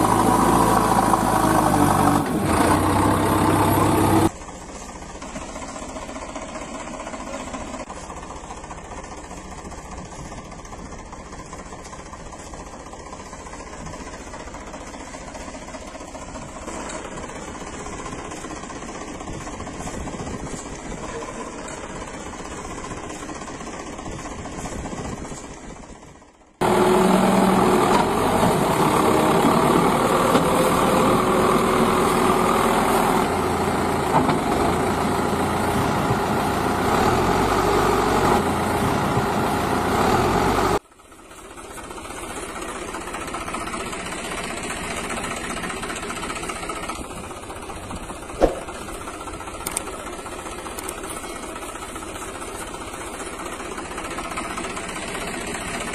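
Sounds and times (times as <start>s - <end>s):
engine idling with knocking: 0.0s - 55.9s.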